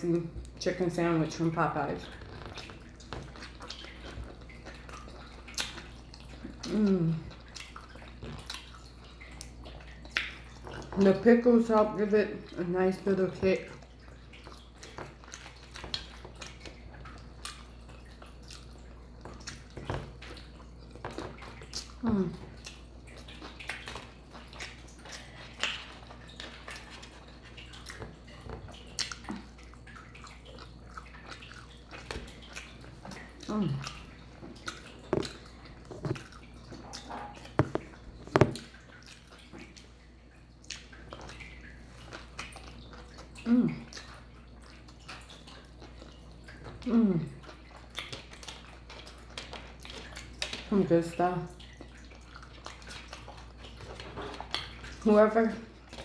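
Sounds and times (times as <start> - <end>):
wet chewing and mouth clicks: 1.9 - 11.3, 13.3 - 50.8, 51.5 - 56.0.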